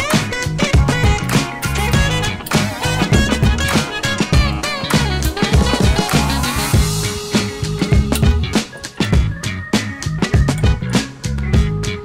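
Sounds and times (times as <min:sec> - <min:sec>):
rock funk music: 0:00.0 - 0:12.0.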